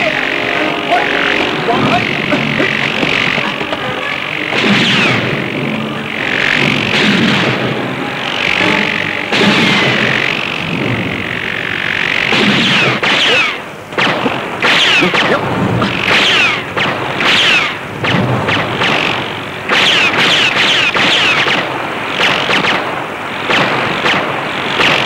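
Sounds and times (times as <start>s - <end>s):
explosions booming and crackling: 1.7s - 25.0s.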